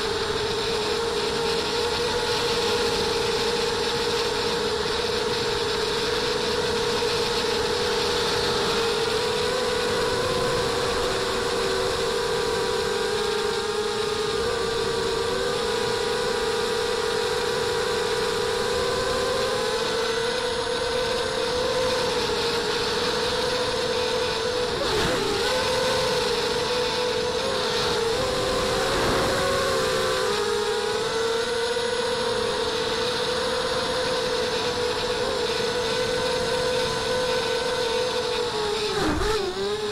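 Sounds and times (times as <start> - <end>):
drone motor whine: 0.0 - 39.9.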